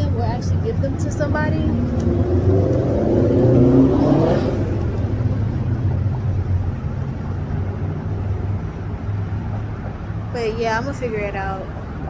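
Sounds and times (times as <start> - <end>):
vehicle engine pulling away: 0.0 - 9.7
street traffic hum: 0.0 - 12.0.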